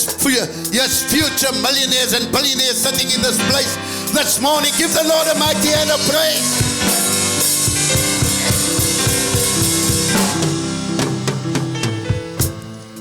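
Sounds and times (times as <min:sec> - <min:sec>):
praise music with drum kit: 0:00.0 - 0:13.0.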